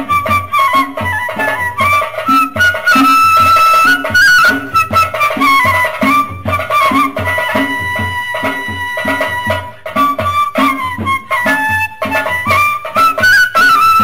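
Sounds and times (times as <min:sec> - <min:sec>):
steady drum beat: 0:00.0 - 0:14.0
wind instrument melody: 0:00.0 - 0:14.0.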